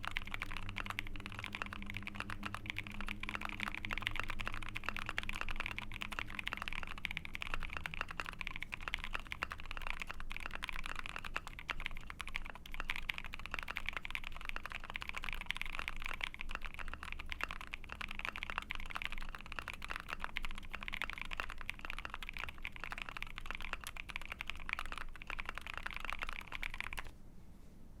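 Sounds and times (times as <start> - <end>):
mechanical keyboard typing: 0.0 - 27.1.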